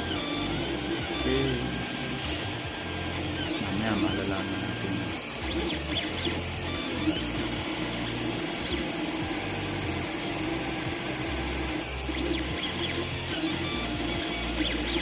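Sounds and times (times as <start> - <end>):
steady printer hum: 0.0 - 15.0
stepper motors humming: 0.0 - 15.0.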